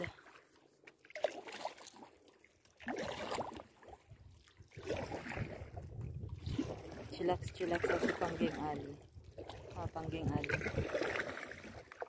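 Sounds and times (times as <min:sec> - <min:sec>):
paddle water splashing: 0:00.0 - 0:12.0.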